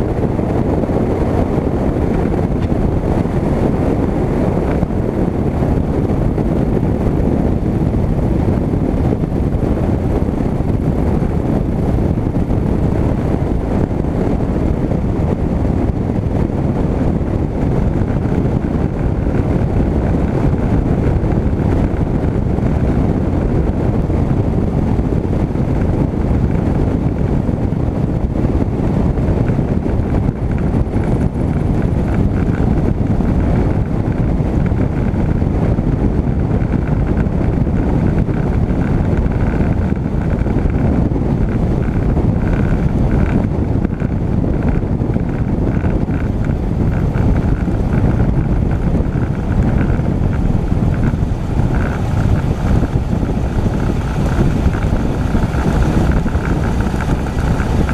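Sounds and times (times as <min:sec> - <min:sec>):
aircraft engine and propeller: 0:00.0 - 0:57.9
wind buffeting camera: 0:00.0 - 0:57.9.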